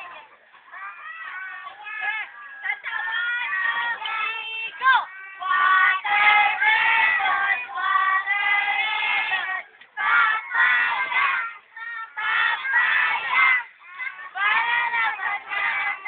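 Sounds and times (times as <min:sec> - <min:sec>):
children singing: 0:00.0 - 0:16.0.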